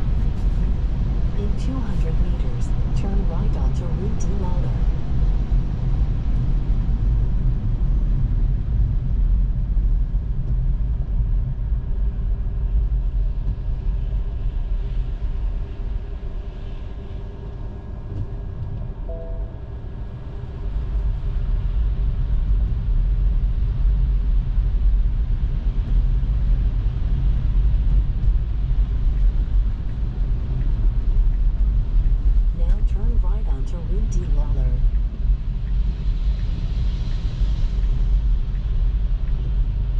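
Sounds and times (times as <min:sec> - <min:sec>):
road and tyre rumble in car: 0:00.0 - 0:19.0, 0:20.0 - 0:39.9.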